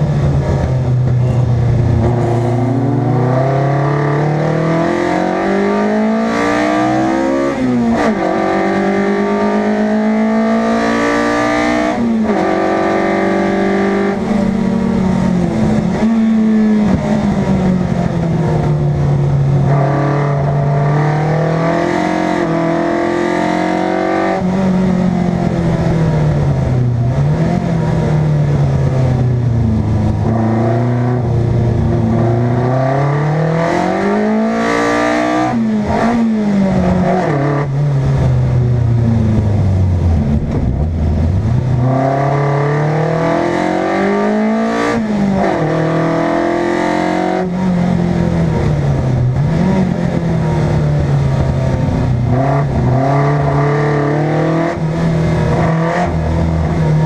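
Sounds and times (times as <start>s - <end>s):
racing car engine revving hard: 0.0s - 57.0s.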